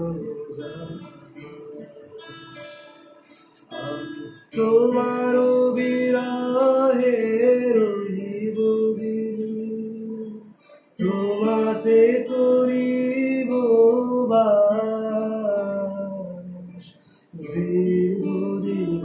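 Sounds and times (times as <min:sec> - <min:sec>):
acoustic guitar: 0:00.0 - 0:19.0
person singing slow song: 0:00.0 - 0:19.0.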